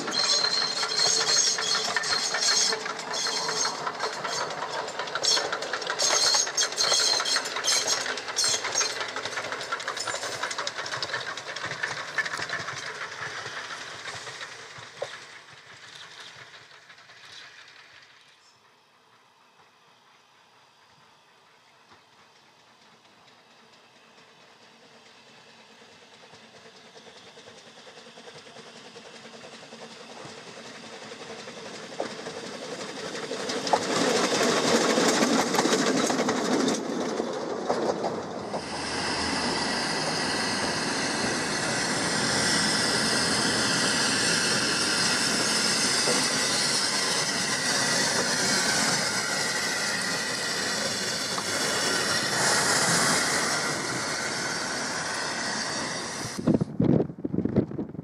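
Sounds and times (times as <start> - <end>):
wheels clicking over rail joints: 0.0 - 20.2, 21.4 - 56.5
hissing steam: 0.0 - 56.6
steam locomotive running: 0.0 - 57.8.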